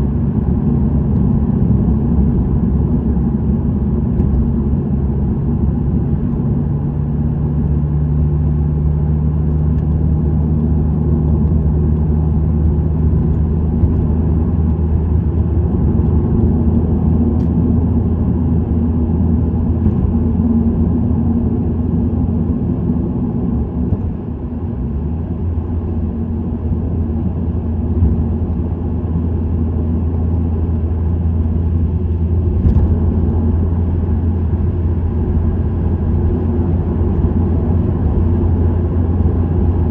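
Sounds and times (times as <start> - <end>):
car engine droning: 0.0 - 39.9
road and tyre noise: 0.0 - 39.9.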